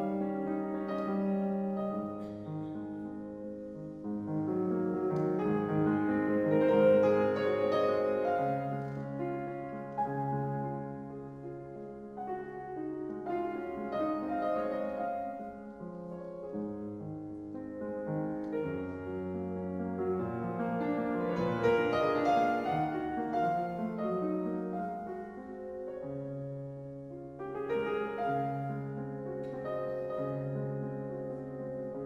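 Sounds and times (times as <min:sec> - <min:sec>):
slow piano music: 0:00.0 - 0:32.0.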